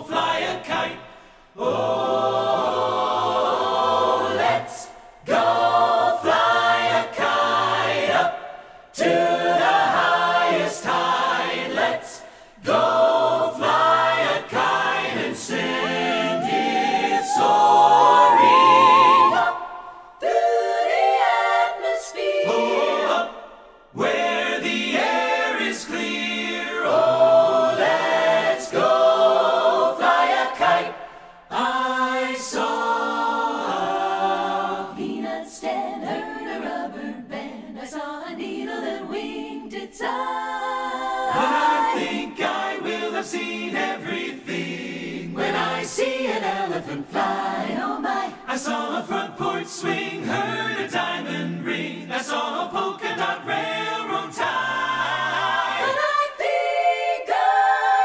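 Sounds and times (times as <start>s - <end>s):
a cappella ensemble singing: 0.0s - 58.0s.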